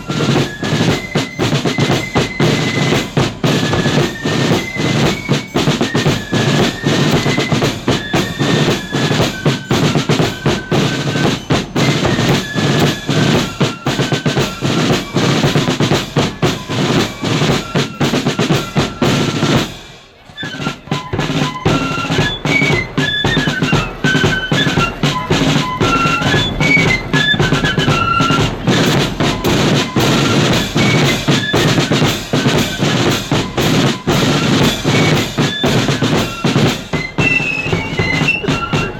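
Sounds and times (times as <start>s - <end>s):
flute melody: 0.0s - 38.9s
snare drums: 0.0s - 38.9s.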